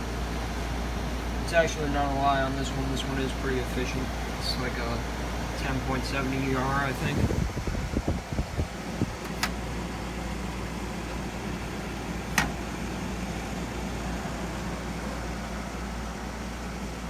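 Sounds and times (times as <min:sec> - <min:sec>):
air conditioner hum and airflow: 0:00.0 - 0:17.0.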